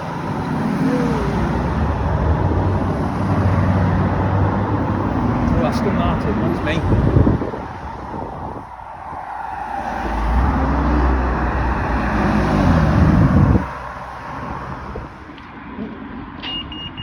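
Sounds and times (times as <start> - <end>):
sports car driving past: 0.0 - 15.3
road noise: 0.0 - 17.0.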